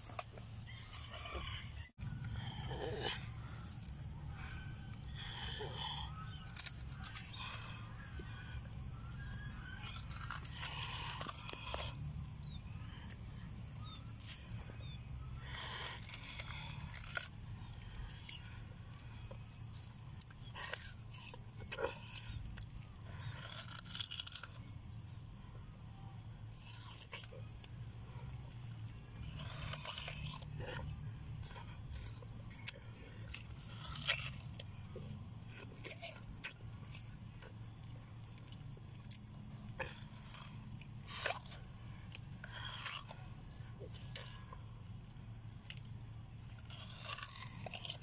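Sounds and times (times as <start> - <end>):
crunching watermelon bites: 0.0 - 48.0.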